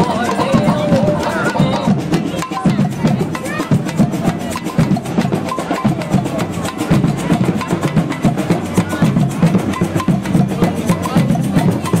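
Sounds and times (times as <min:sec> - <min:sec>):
drums playing fast rhythm: 0:00.0 - 0:12.0
faint voices: 0:00.0 - 0:12.0.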